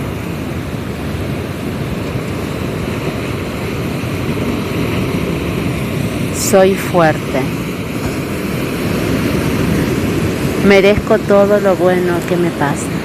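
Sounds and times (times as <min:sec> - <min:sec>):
sea surf rushing: 0:00.0 - 0:13.0.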